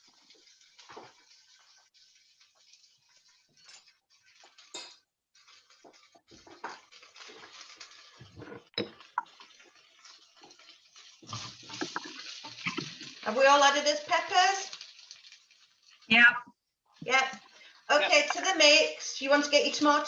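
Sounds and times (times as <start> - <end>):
cooking hiss in pans: 0.0 - 16.3, 17.0 - 20.0.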